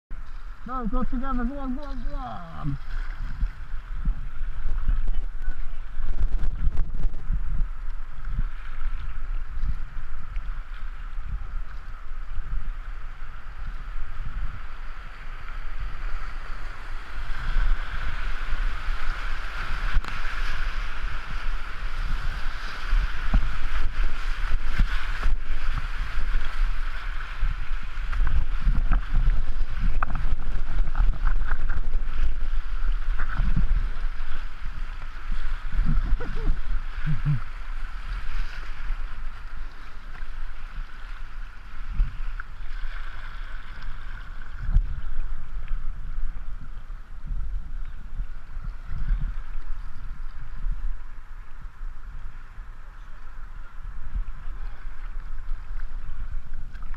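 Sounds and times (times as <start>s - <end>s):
wind buffeting microphone: 0.1s - 56.9s
water splashes: 0.2s - 56.9s.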